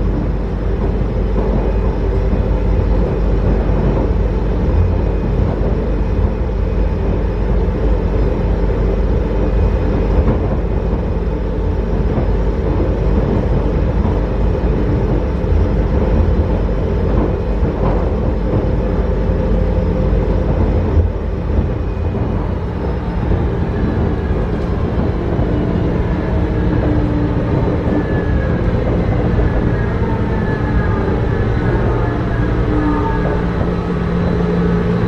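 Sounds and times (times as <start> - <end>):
metro train rumbling: 0.0 - 35.0.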